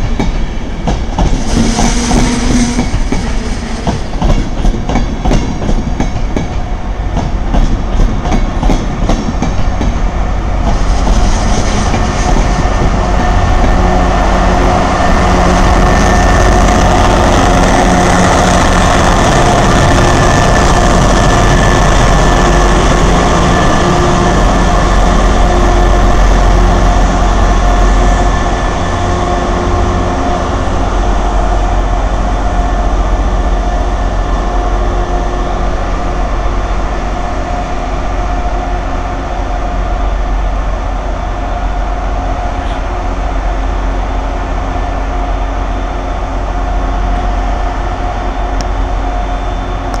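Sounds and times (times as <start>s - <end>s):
diesel locomotive rumble and whine: 0.0s - 50.0s.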